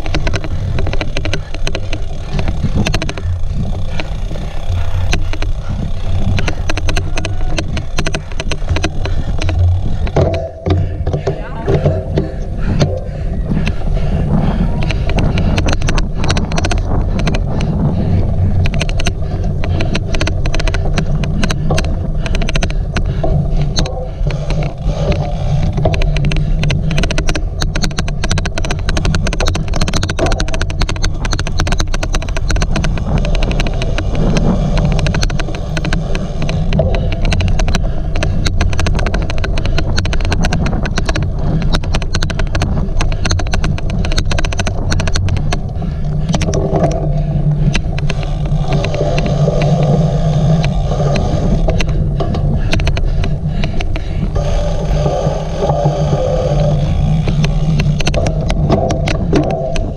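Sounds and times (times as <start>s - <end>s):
bike rumbling over rough ground: 0.0s - 59.9s
rapid irregular clicking: 0.0s - 59.9s.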